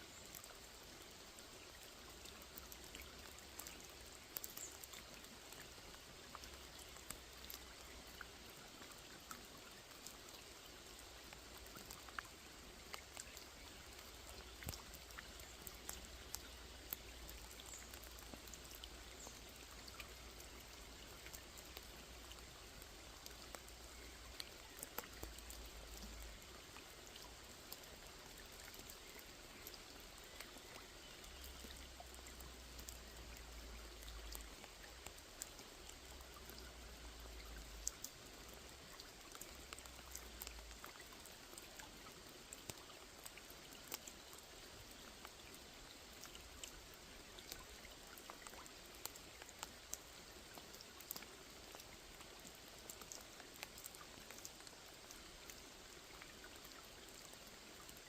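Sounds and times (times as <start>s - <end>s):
rain on water: 0.0s - 58.0s.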